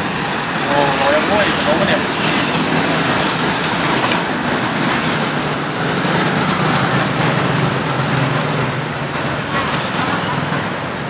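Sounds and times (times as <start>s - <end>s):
continuous traffic noise: 0.0s - 11.0s.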